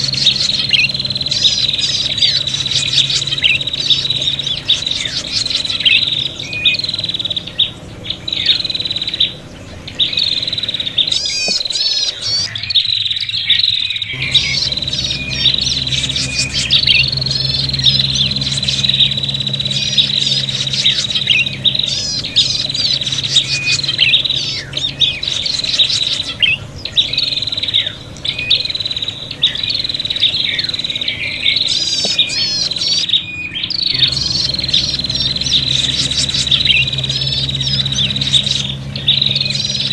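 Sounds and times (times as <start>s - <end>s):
birds chirping in chorus: 0.0s - 39.9s.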